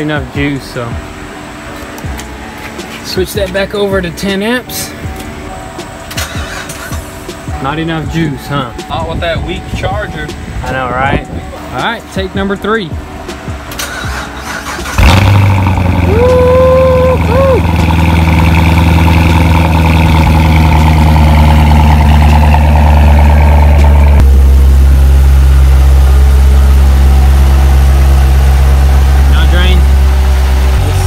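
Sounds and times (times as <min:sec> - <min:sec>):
car engine cranking and idling: 0:00.0 - 0:31.0.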